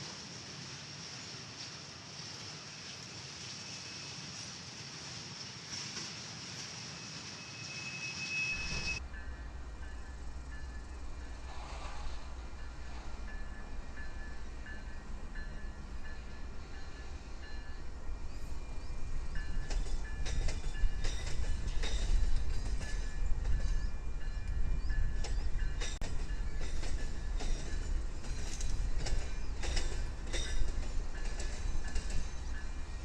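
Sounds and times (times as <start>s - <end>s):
train rumbling on tracks: 0.0s - 33.0s
wheels clicking and squealing: 2.7s - 33.0s.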